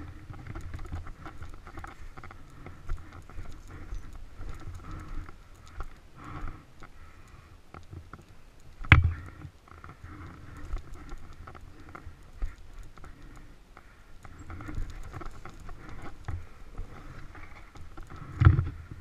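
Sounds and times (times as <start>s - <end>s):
tyres crackling over leaves: 0.0s - 19.0s.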